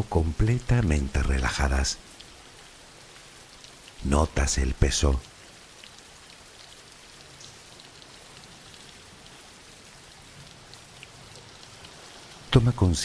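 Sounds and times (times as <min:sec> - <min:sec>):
soft rain pattering: 0:00.0 - 0:13.0.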